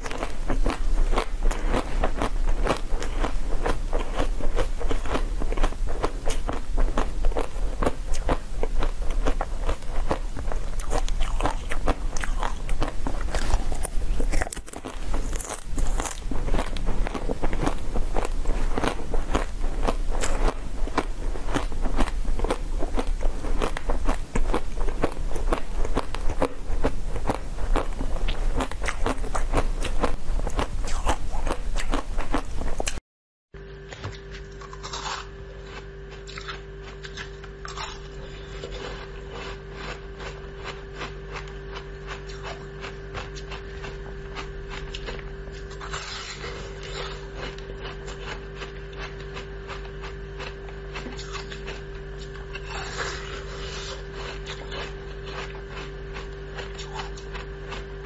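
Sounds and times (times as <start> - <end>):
crunchy chewing of frozen dessert: 0.0 - 33.0, 33.7 - 58.0
steady low hum: 0.0 - 33.0, 33.6 - 58.0.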